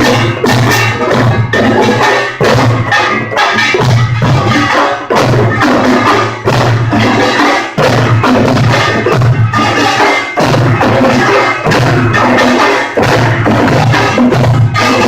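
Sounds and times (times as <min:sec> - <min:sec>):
clatter of gongs: 0:00.0 - 0:15.0
drum strokes: 0:00.0 - 0:15.0.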